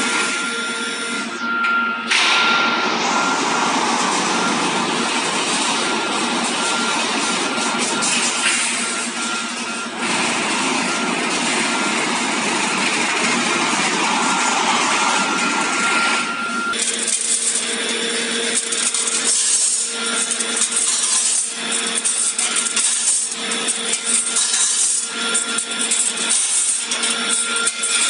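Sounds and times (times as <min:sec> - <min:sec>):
constant mechanical whine: 0:00.0 - 0:28.0
welding machine running: 0:00.0 - 0:28.0.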